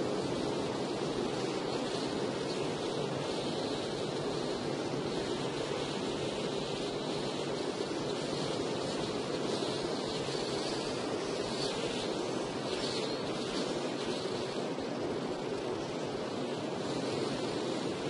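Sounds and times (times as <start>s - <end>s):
wind and rain on moving car: 0.0s - 18.0s.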